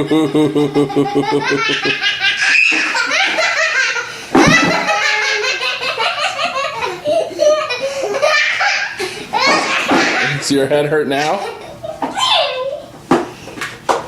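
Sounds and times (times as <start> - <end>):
children laughing: 0.0 - 10.5, 11.1 - 13.0.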